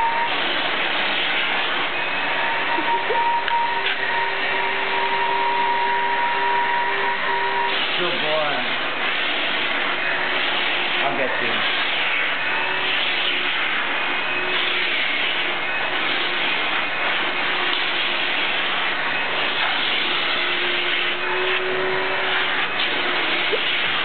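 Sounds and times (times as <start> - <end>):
vacuum cleaner suction: 0.0 - 24.0.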